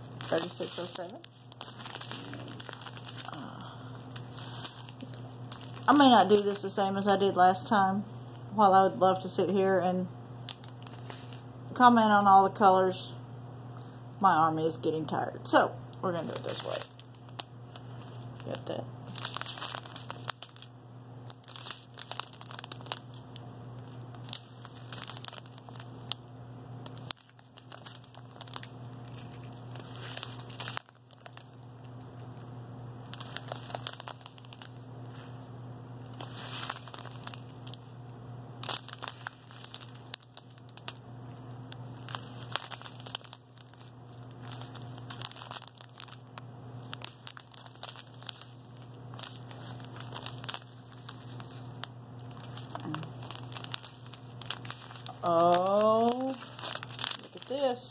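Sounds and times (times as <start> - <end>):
plastic bags crinkling: 0.0 - 7.7, 10.4 - 11.5, 16.0 - 38.0, 38.6 - 57.9
steady low hum: 0.0 - 57.9.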